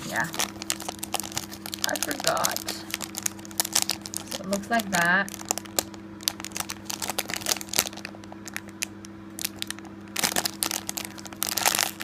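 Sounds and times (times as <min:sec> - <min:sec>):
low steady hum: 0:00.0 - 0:12.0
plastic packaging crinkling: 0:00.0 - 0:12.0.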